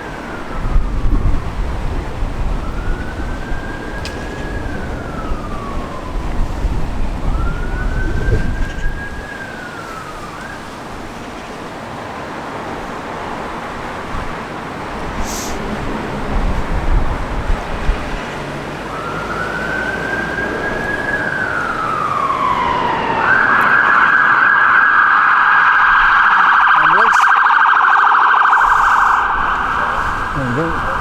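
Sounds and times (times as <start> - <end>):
emergency siren wailing: 0.0 - 31.0
road traffic rumble: 0.0 - 31.0.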